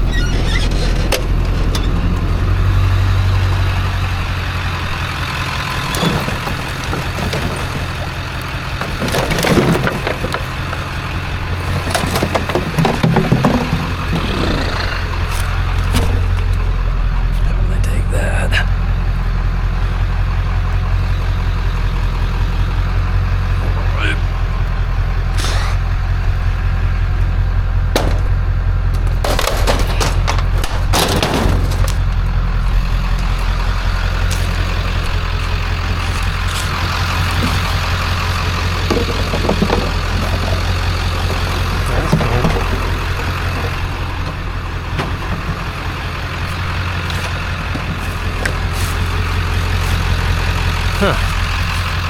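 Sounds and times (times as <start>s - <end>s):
knocks and clatter: 0.0s - 17.4s, 26.6s - 52.0s
vehicle engine idling: 0.0s - 52.0s.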